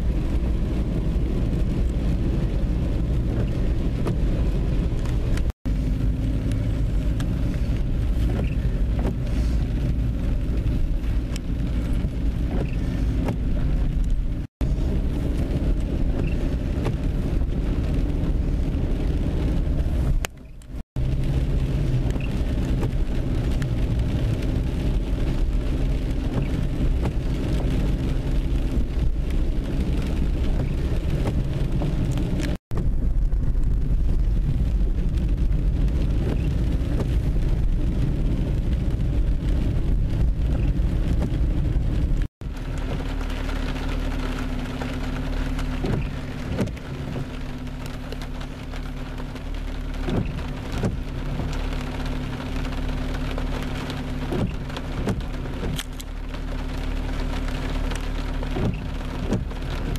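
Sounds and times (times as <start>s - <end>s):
car engine hum: 0.0s - 59.9s
rain on car windscreen and roof: 0.0s - 59.9s
road rumble: 0.0s - 59.9s.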